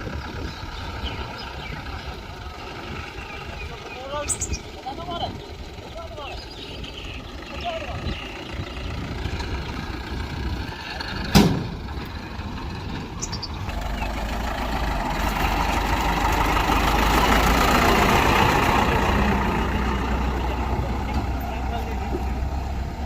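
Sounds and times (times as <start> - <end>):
diesel machinery engine running: 0.0 - 23.0.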